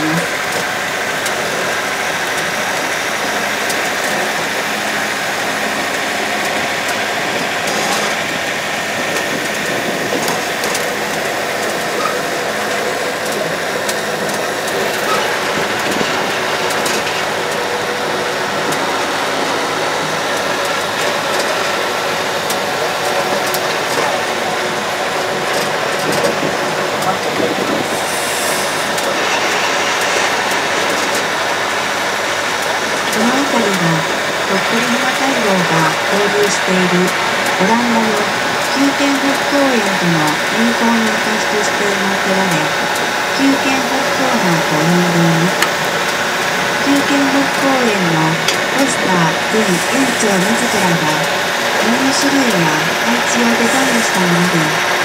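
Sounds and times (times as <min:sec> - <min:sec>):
road train engine hum: 0:00.0 - 0:55.0.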